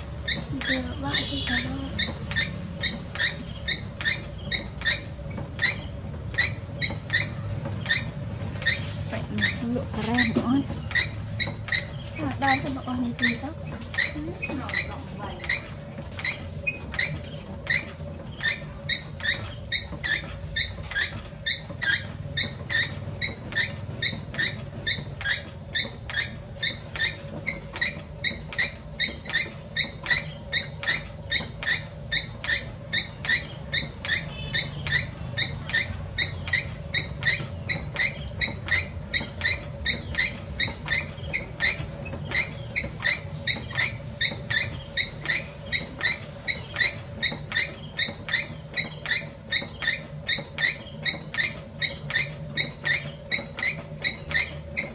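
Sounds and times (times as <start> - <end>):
low steady hum: 0.0 - 54.9
potter's wheel squeaking: 0.0 - 54.9.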